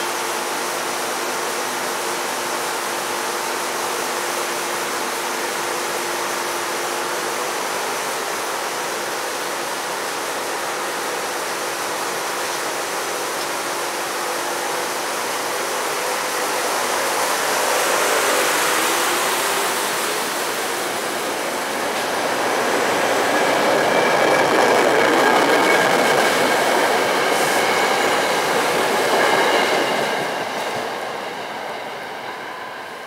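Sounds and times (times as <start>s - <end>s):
electric train rolling past: 0.0s - 33.0s.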